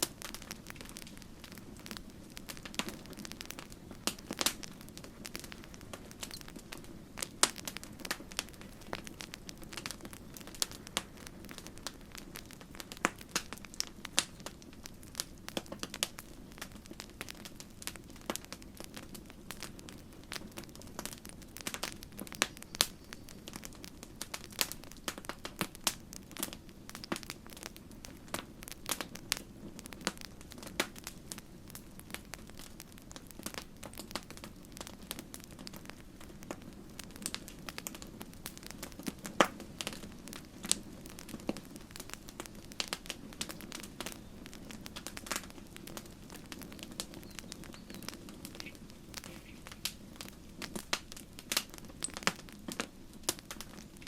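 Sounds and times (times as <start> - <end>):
campfire crackling and popping: 0.0 - 54.0
low rumble of burning fire: 0.0 - 54.0.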